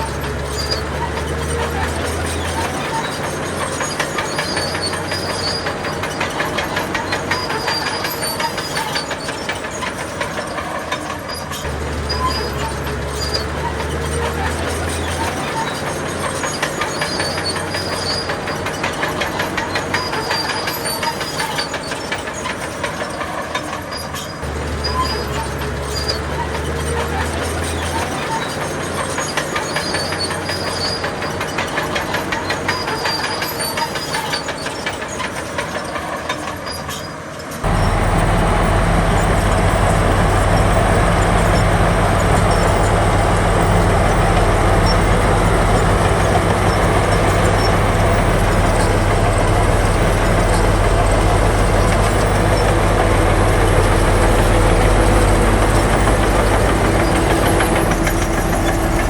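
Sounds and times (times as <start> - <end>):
bulldozer diesel engine: 0.0 - 59.0
steel tracks clattering: 0.0 - 59.0.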